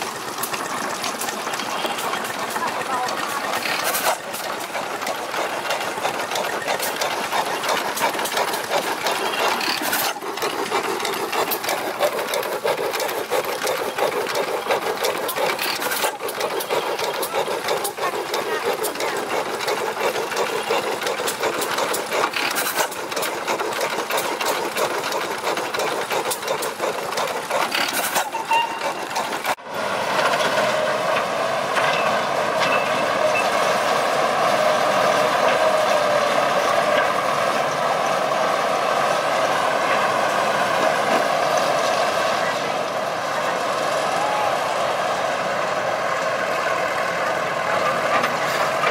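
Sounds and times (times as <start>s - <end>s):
stationary engine clattering: 0.0s - 48.9s.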